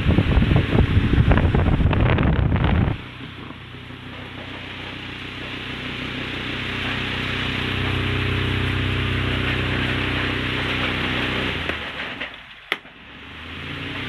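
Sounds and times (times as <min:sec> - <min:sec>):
electric fan running: 0:00.0 - 0:14.0.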